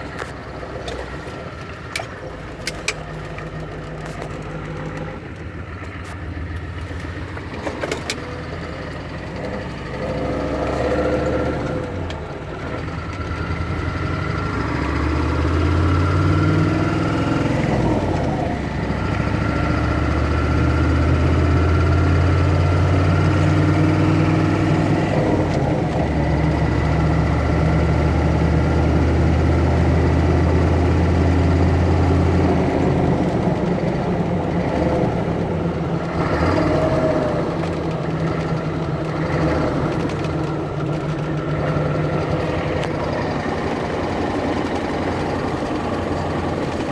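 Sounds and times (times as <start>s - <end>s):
turbocharged car engine droning: 0.0s - 46.9s.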